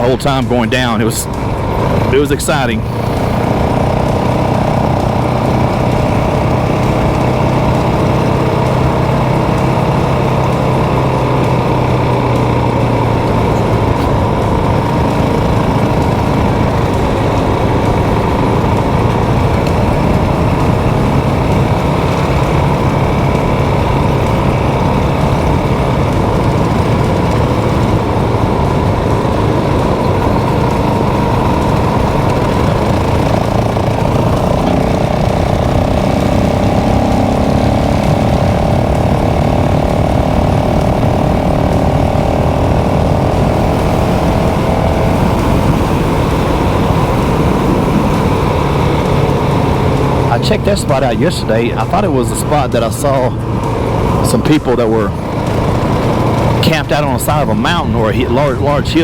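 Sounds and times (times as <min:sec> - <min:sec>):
motorcycle engine running: 0:00.0 - 0:59.0
riding wind noise: 0:00.0 - 0:59.0.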